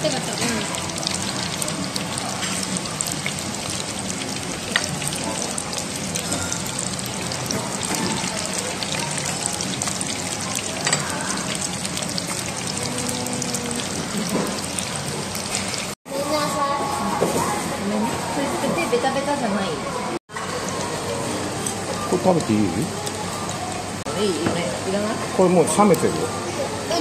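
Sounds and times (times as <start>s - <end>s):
meat deep-frying in oil: 0.0s - 16.0s, 20.3s - 26.8s.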